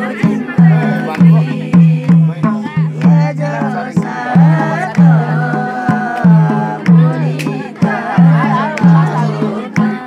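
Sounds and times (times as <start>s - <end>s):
drum beating: 0.0s - 10.0s
person singing: 0.0s - 10.0s.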